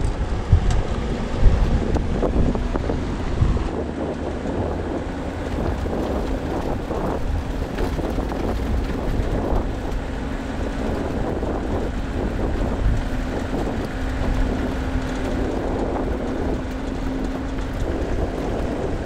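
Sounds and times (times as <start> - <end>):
car engine running: 0.0 - 19.0
tyre rumble: 0.0 - 19.0
wind buffeting on microphone: 0.0 - 19.0.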